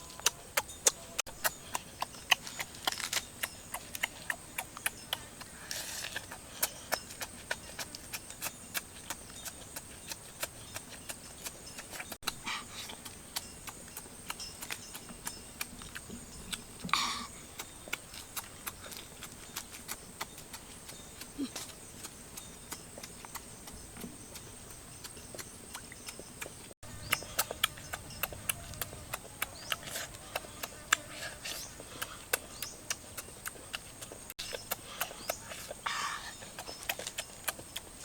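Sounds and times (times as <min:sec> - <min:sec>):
wet chewing smacks and clicks: 0:00.1 - 0:38.0.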